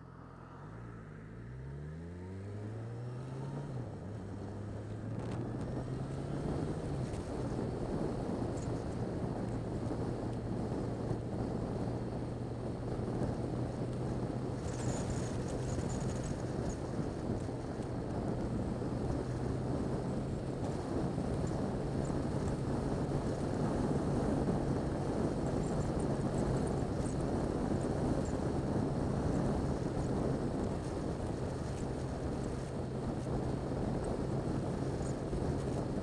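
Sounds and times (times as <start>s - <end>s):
motorcycle engine cruising: 0.0s - 36.0s
wind rushing on microphone: 2.5s - 36.0s.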